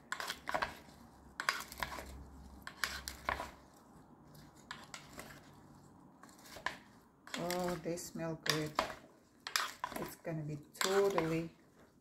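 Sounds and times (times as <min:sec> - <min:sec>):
wooden spoons scraping a bowl: 0:00.0 - 0:12.0.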